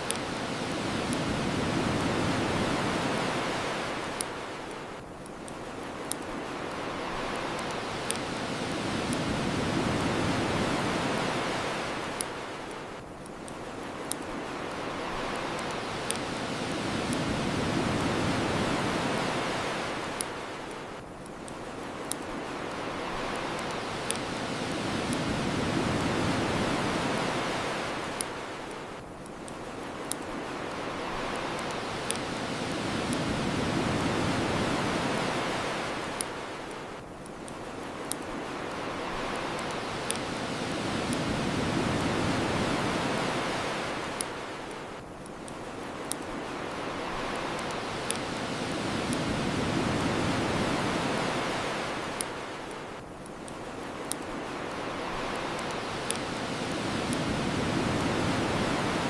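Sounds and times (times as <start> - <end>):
bonfire crackling: 0.0 - 59.0
ocean waves breaking on shore: 0.0 - 59.0.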